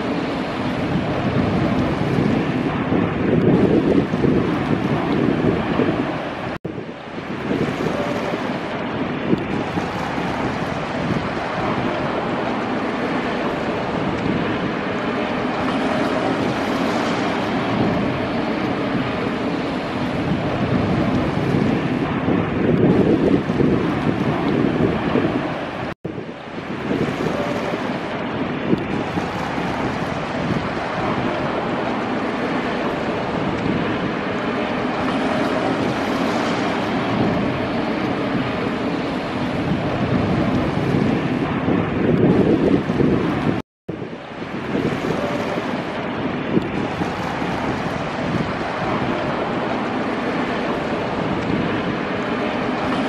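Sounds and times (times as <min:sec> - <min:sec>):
jet engines rushing: 0:00.0 - 0:53.0
wind buffeting microphone: 0:00.0 - 0:53.0.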